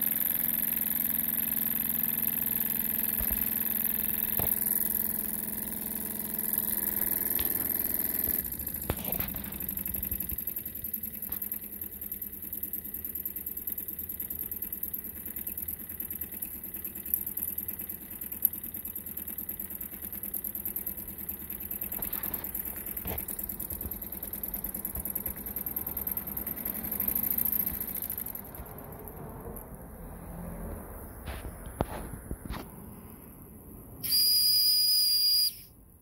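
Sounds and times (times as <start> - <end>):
toy steam engine running: 0.0 - 29.7, 34.0 - 35.7
steady hum: 3.1 - 36.0.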